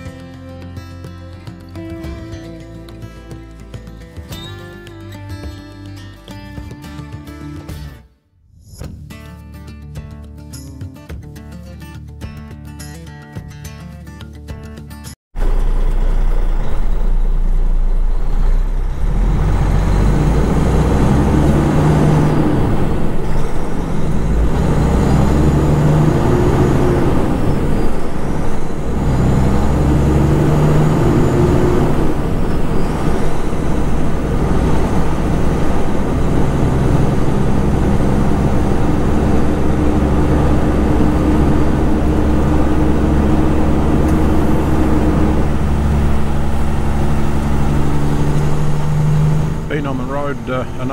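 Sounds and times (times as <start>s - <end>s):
truck diesel engine accelerating: 0.0s - 8.0s, 15.4s - 50.9s.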